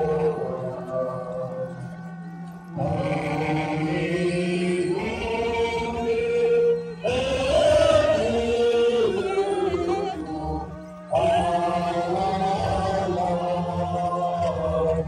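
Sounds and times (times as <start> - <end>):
group of voices chanting a song: 0.0 - 15.0
steady low drone: 0.0 - 15.0.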